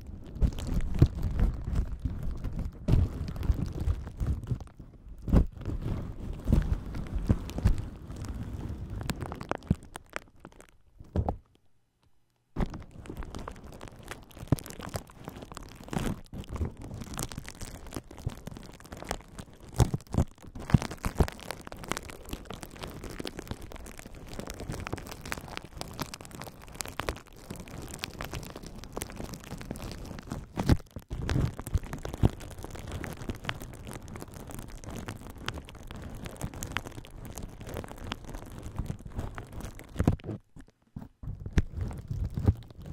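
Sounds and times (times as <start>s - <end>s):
bubble wrap crackling: 0.0s - 11.5s, 12.5s - 42.9s.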